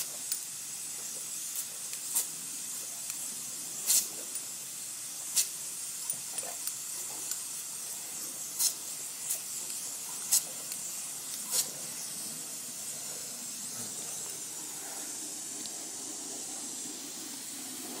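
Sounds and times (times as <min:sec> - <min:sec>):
hose nozzle spray hissing: 0:00.0 - 0:18.0.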